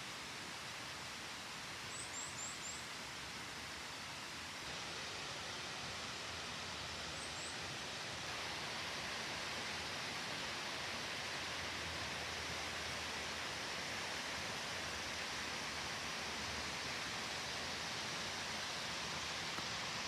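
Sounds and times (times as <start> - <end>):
mountain stream rushing: 2.8 - 20.0.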